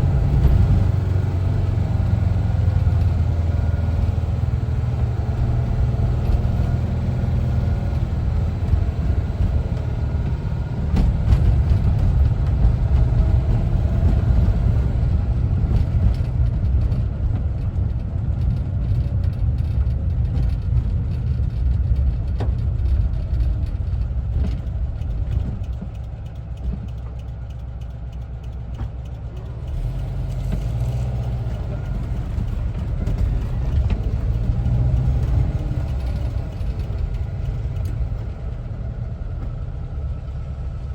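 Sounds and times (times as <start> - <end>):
air-cooled engine rumbling: 0.0 - 40.9.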